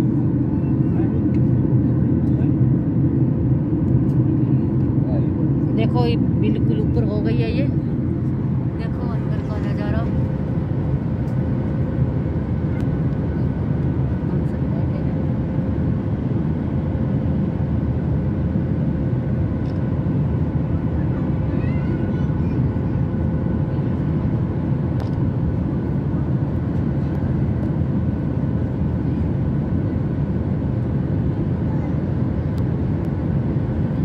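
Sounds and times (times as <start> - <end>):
engine and airflow roar: 0.0 - 34.0.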